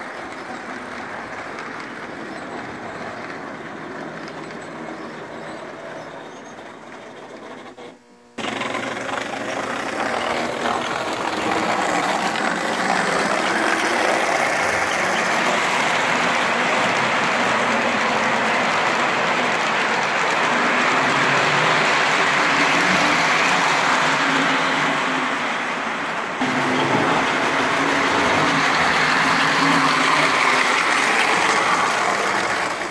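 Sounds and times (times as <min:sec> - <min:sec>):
model trains rumbling and whirring: 0:00.0 - 0:32.9.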